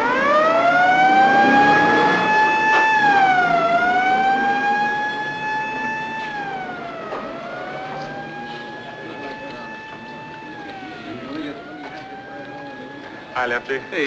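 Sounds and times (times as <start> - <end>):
ambulance siren wailing: 0.0 - 14.0.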